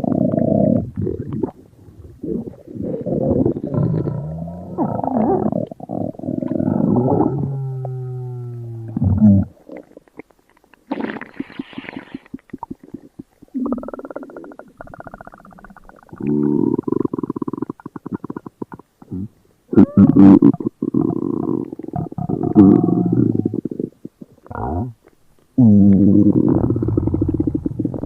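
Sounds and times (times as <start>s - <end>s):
stomach growling and gurgling: 0.0s - 28.0s.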